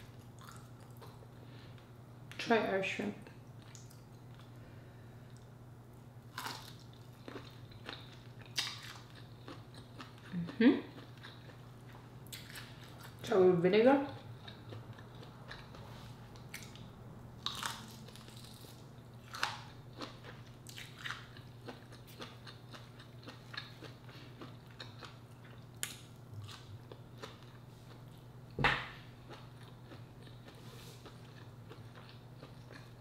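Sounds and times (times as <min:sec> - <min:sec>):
person chewing and biting: 0:00.0 - 0:01.3, 0:06.3 - 0:13.2, 0:14.2 - 0:28.2, 0:28.8 - 0:33.0.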